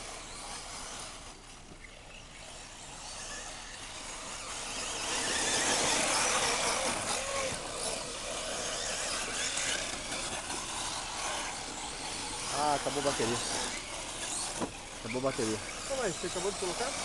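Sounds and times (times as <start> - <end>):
electric motors whining: 0.0 - 17.0
tyres hissing on loose dirt: 0.0 - 17.0.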